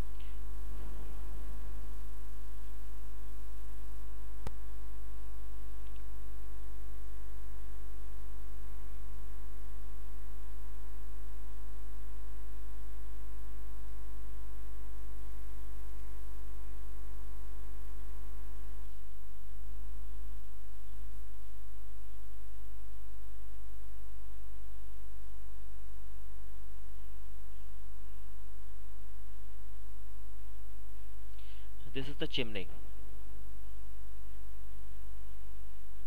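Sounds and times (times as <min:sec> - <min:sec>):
electrical mains hum: 0:00.0 - 0:36.0.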